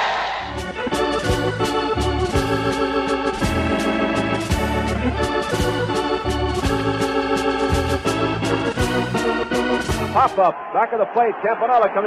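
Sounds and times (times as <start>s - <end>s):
electric organ playing brisk tune: 0.5s - 10.4s.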